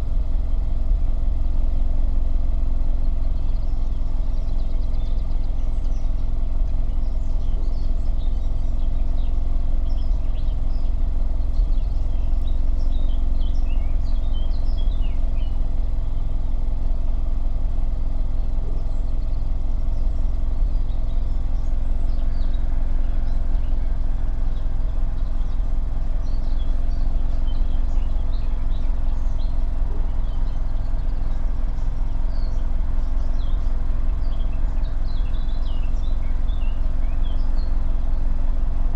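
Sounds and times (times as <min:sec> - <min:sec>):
car engine idling: 0:00.0 - 0:38.9
birds chirping: 0:03.0 - 0:16.2, 0:17.8 - 0:38.8.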